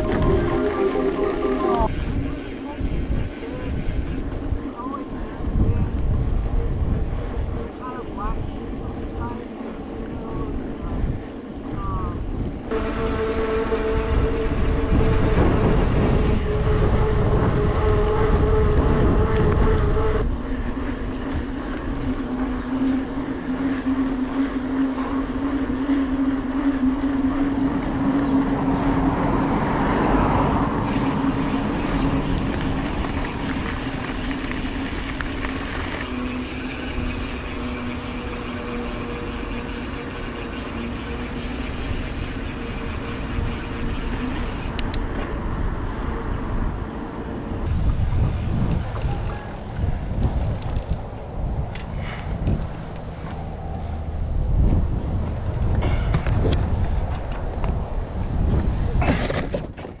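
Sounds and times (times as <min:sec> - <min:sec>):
bike tyres humming on pavement: 0:00.0 - 1:00.0
wind rumble on microphone: 0:00.0 - 1:00.0.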